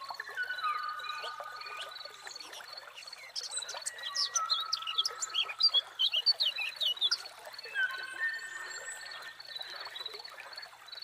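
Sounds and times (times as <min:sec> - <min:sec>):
birds chirping and whistling: 0:00.0 - 0:10.1.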